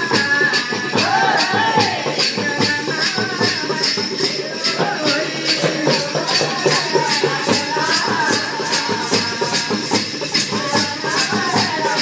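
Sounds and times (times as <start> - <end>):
jingling shaking percussion: 0.0 - 12.0.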